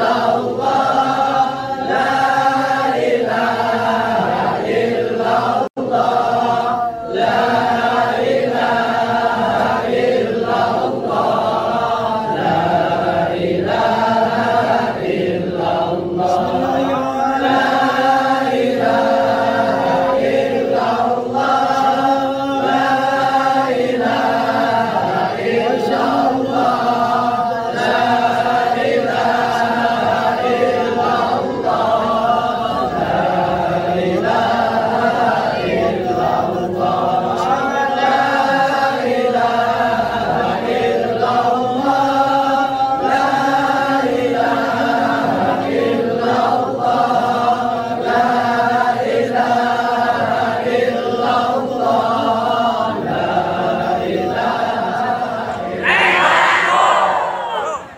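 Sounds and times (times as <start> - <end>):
group of voices chanting: 0.0 - 57.9.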